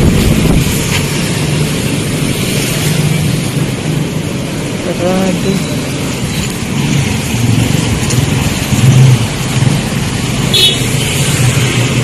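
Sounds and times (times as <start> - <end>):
motorcycle engines passing: 0.0 - 12.0.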